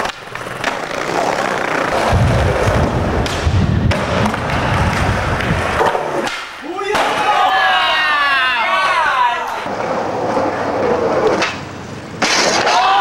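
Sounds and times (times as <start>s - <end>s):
skateboard clacks: 0.0s - 7.4s, 9.6s - 13.0s
skateboard wheels rolling on concrete: 0.0s - 13.0s.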